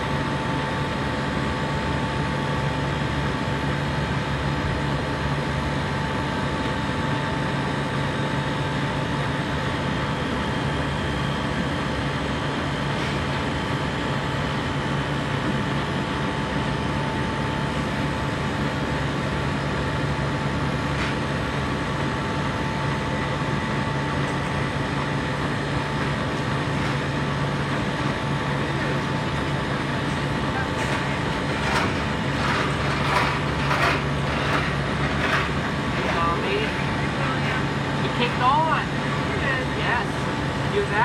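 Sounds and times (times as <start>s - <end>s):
compressor running: 0.0s - 41.0s.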